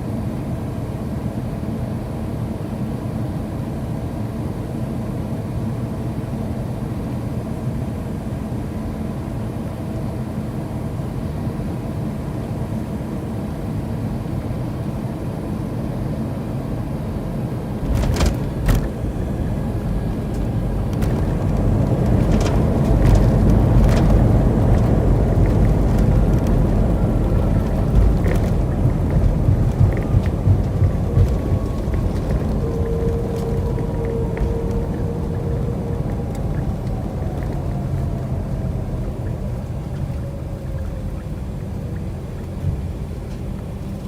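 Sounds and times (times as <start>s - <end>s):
airplane cabin noise: 0.0s - 44.0s.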